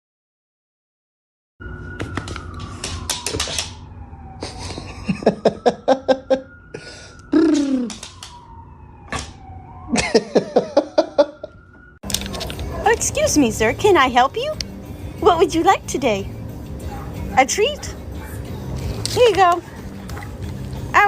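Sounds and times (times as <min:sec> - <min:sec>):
siren wailing: 0:01.6 - 0:21.0.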